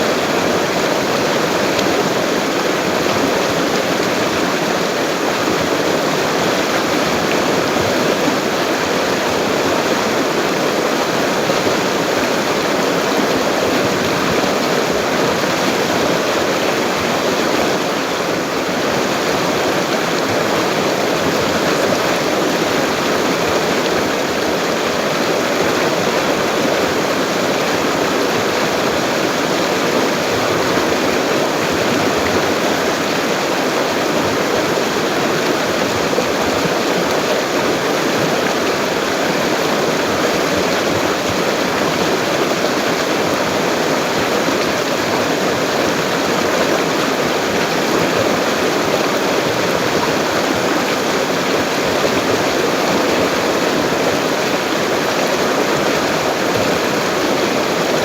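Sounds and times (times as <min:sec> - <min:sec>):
river rushing: 0:00.0 - 0:58.0.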